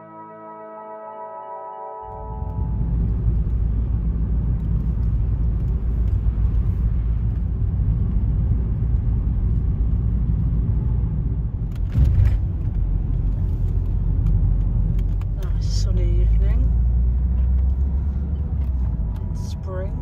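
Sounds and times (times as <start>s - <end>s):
tyres on road: 2.0s - 20.0s
car engine rumble: 2.1s - 20.0s.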